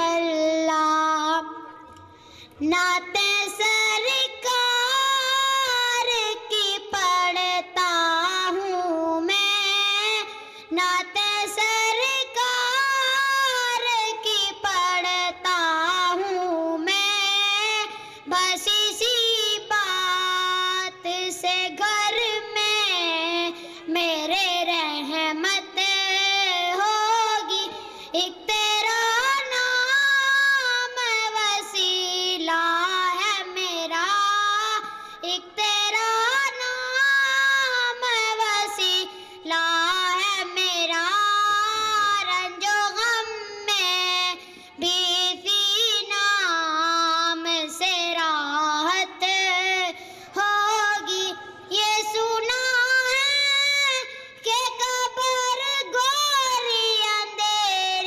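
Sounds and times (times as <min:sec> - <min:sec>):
boy singing into a microphone: 0:00.0 - 0:58.0.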